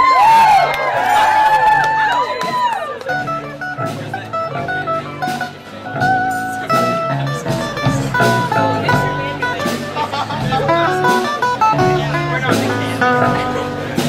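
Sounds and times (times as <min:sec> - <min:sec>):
guitar solo: 0:00.0 - 0:14.0
drum kit beat: 0:01.3 - 0:14.0
strummed guitar: 0:01.7 - 0:14.0.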